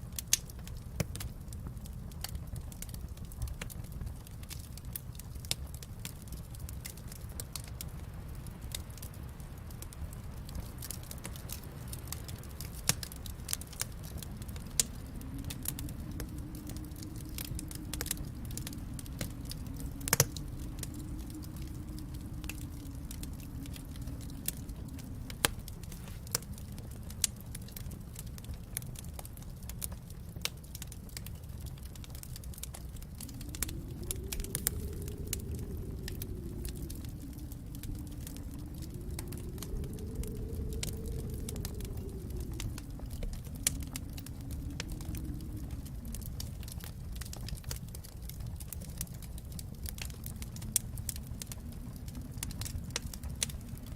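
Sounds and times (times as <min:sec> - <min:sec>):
low steady rumble: 0:00.0 - 0:53.9
wood fire crackling: 0:00.0 - 0:53.9.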